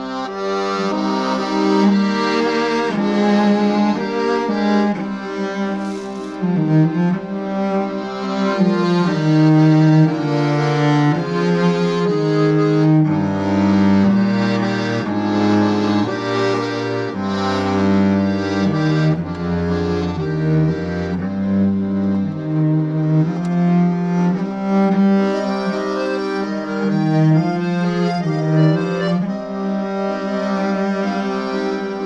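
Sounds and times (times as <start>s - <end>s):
accordion held notes: 0.0s - 32.0s
cello held notes: 0.0s - 32.0s.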